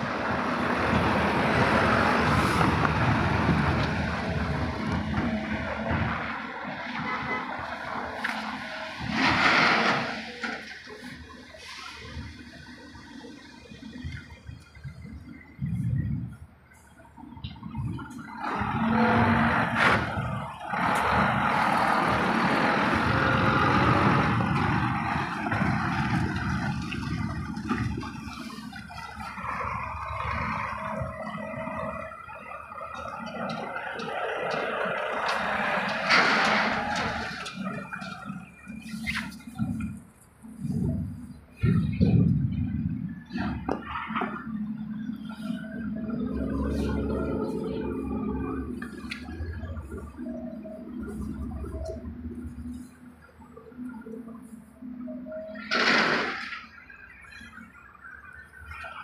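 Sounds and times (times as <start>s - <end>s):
diesel truck driving past: 0.0s - 59.0s.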